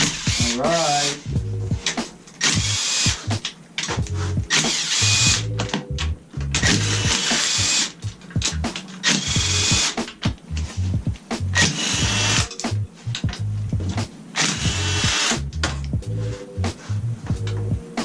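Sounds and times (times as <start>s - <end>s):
power driver whining: 0.0s - 16.0s
background music: 0.0s - 18.0s.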